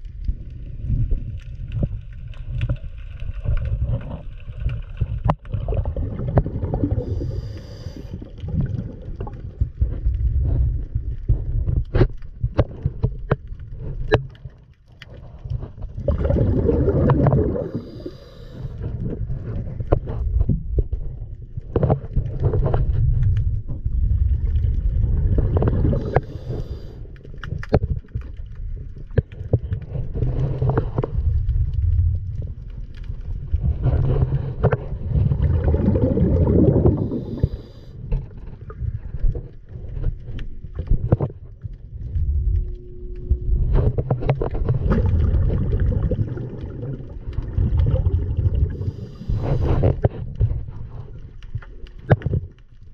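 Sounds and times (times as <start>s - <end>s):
low underwater rumble: 0.0s - 52.9s.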